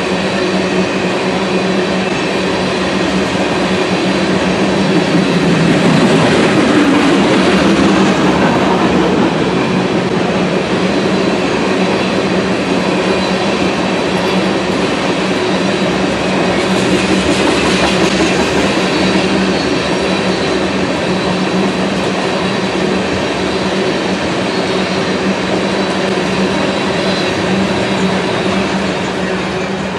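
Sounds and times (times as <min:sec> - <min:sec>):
freight train wheels clacking: 0:00.0 - 0:29.9.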